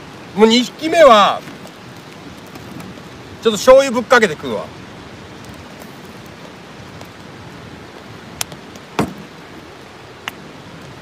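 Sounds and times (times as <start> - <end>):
charcoal fire hissing: 0.0 - 11.0.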